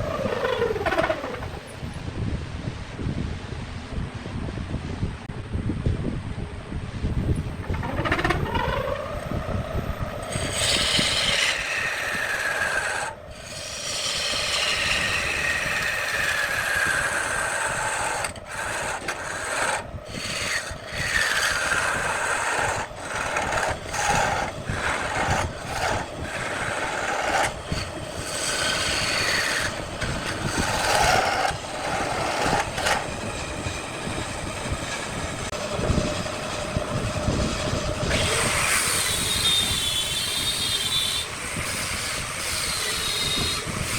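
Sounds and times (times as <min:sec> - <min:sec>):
lathe tool scraping wood: 0:00.0 - 0:01.8, 0:07.4 - 0:43.9.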